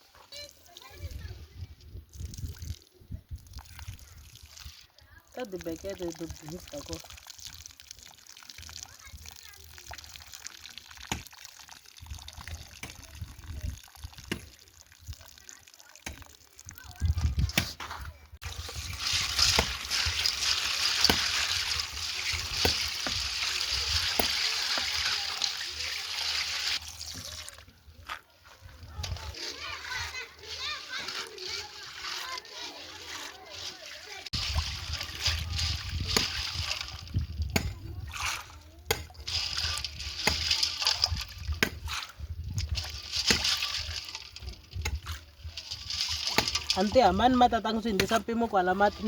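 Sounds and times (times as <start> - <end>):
water running and splashing: 2.1 - 17.7, 18.4 - 49.0.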